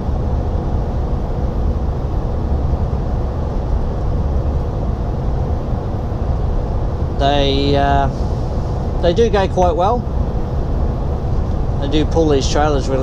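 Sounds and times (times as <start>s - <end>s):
road rumble: 0.0s - 13.0s
truck engine drone: 0.0s - 13.0s.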